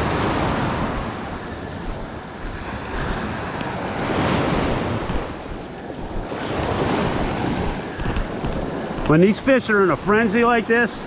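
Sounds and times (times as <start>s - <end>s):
wind buffeting microphone: 0.0s - 9.2s
surf washing up a sand beach: 0.0s - 11.0s.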